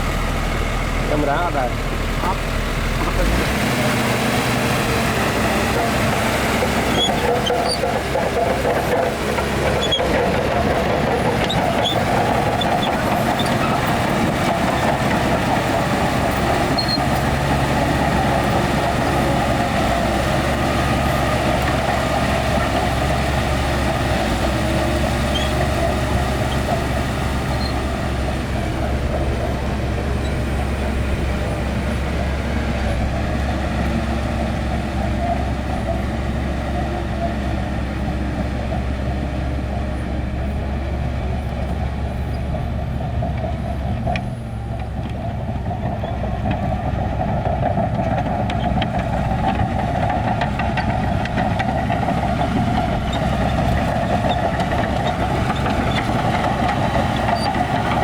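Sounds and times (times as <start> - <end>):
heavy diesel machinery running: 0.0 - 58.0.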